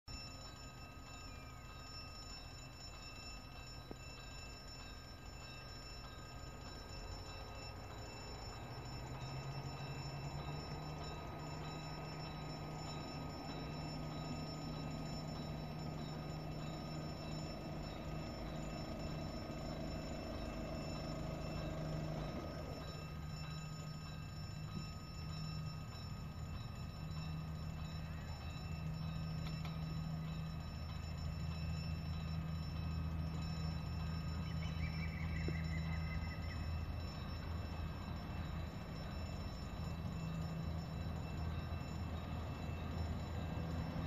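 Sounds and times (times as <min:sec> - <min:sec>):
level crossing warning bell: 0:00.0 - 0:44.0
diesel train engine hum: 0:00.1 - 0:44.0.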